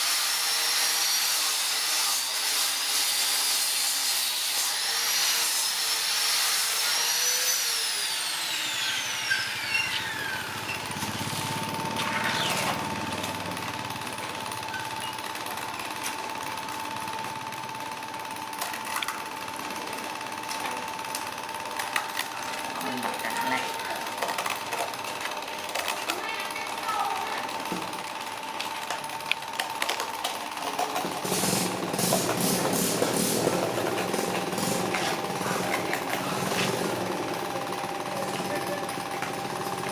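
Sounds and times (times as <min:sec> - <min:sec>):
power tool motor whining: 0:00.0 - 0:18.6, 0:19.2 - 0:39.9.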